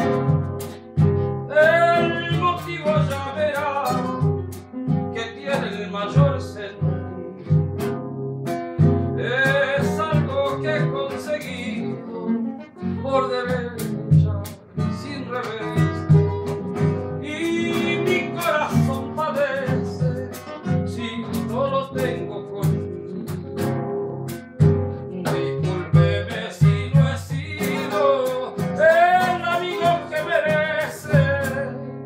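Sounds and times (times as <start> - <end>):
man singing: 0.0 - 0.4, 1.5 - 4.5, 5.1 - 7.5, 9.2 - 23.6, 25.1 - 32.0
nylon-string guitars: 0.0 - 32.0.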